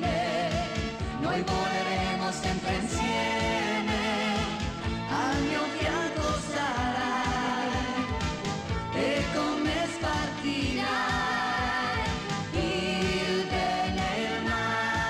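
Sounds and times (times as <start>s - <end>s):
pop song with drum beat: 0.0s - 15.0s.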